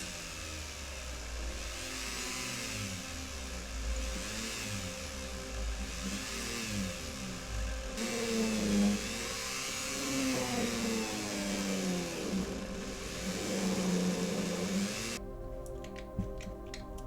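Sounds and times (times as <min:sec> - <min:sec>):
small power tool motor running: 0:00.0 - 0:15.2.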